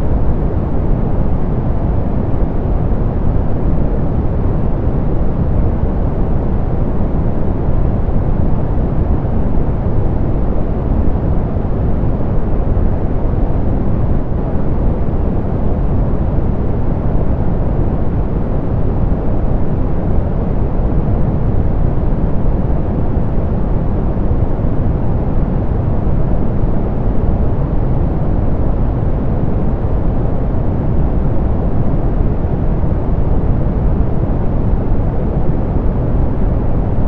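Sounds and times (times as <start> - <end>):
soft pink noise: 0.0 - 37.0.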